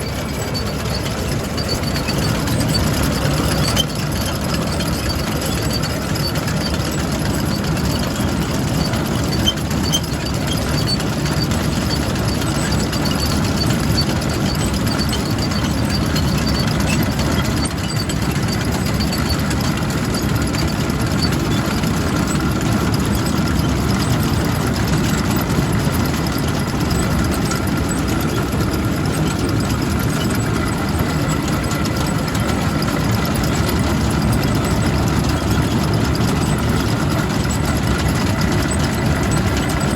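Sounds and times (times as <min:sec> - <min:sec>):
machinery noise: 0:00.0 - 0:39.9
tractor engine running: 0:00.0 - 0:39.9.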